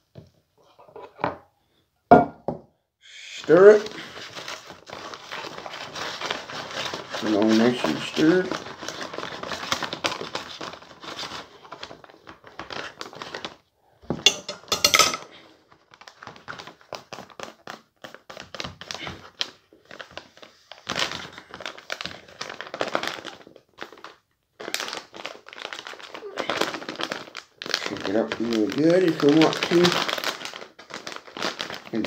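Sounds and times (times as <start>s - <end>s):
food pouch crinkling: 3.6s - 13.6s, 15.7s - 32.0s.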